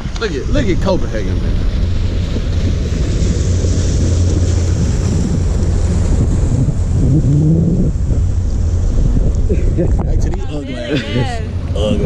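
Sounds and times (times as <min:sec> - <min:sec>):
steady low hum: 0:00.0 - 0:12.0
water rushing past hull: 0:00.0 - 0:12.0
wind buffeting microphone: 0:00.0 - 0:12.0.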